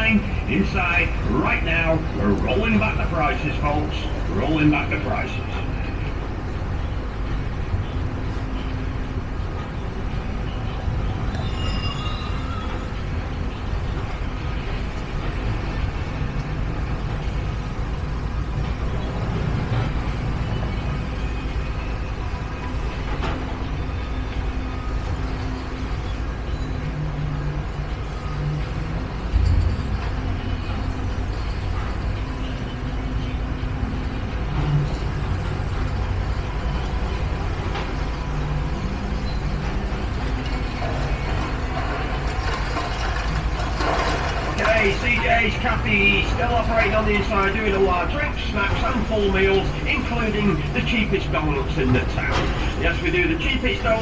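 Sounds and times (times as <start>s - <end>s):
faint steady tones: 0.0s - 43.5s.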